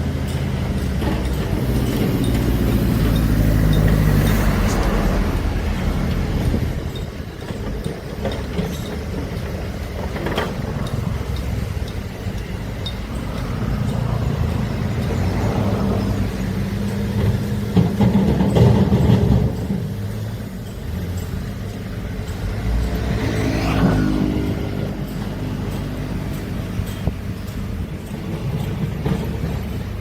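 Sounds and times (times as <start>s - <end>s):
excavator diesel engine revving: 0.0s - 30.0s.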